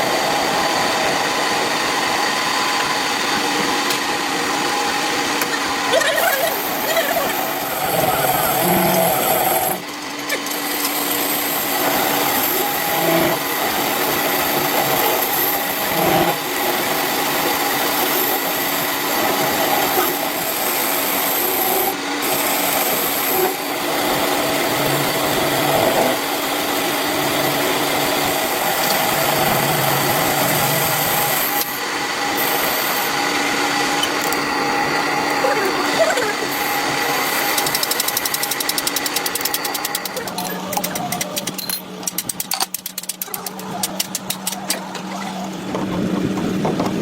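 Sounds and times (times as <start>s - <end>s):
power tool grinding metal: 0.0s - 47.0s.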